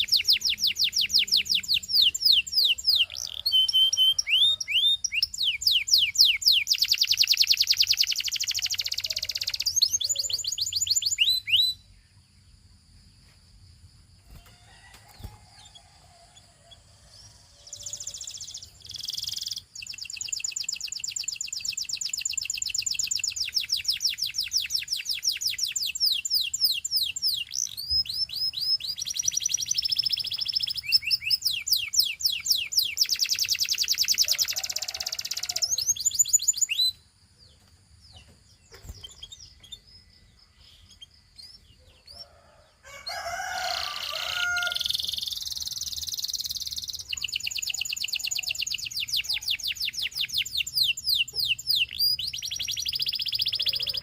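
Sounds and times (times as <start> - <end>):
canary singing trills: 0.0 - 12.6, 14.2 - 54.0.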